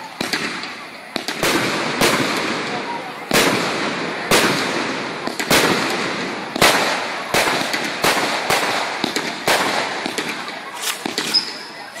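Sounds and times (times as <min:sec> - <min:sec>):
fireworks bangs: 0:00.0 - 0:12.0
fireworks hiss: 0:00.0 - 0:12.0.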